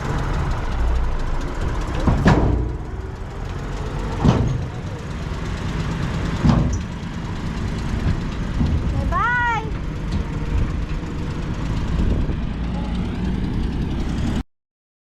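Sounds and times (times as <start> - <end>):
bulldozer diesel engine rumble: 0.0 - 14.4.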